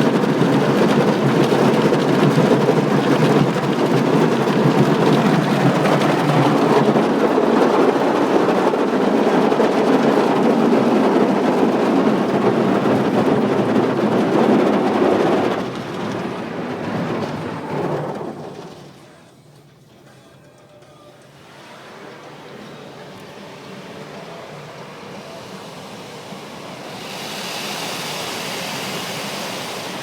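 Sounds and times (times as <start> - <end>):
car wash spray and scrubbing: 0.0 - 19.1, 21.3 - 30.0.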